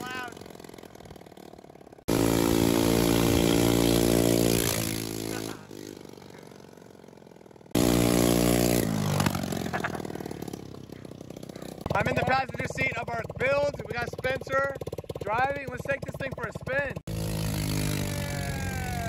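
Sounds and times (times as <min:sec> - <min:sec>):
unmuffled buggy engine running: 0:00.0 - 0:19.0.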